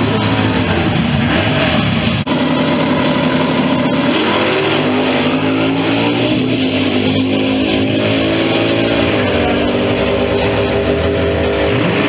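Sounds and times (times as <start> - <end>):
drag cars accelerating: 0.0 - 12.0.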